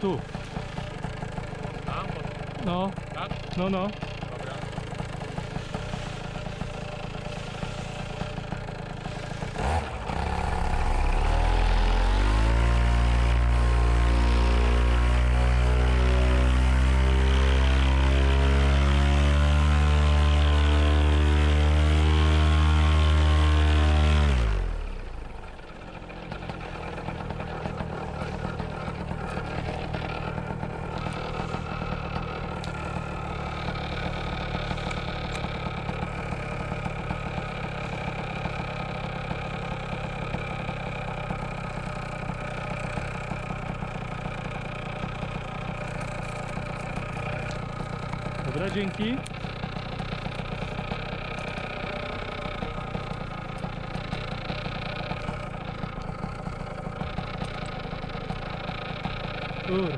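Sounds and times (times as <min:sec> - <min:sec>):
paramotor engine and propeller: 0:00.0 - 0:59.9.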